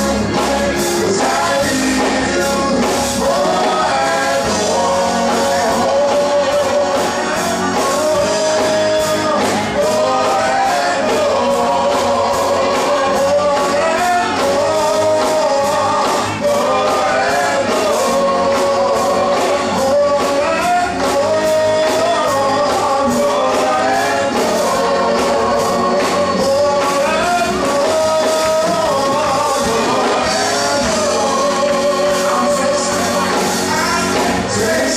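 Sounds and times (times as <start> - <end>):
gospel singing: 0.0 - 34.9
instrumental accompaniment: 0.0 - 34.9
steady percussive beat: 0.0 - 34.9.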